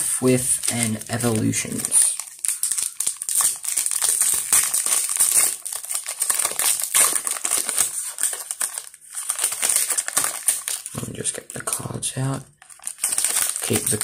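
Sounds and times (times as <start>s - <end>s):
foil wrapper crinkling: 0.1s - 12.0s, 12.6s - 14.0s.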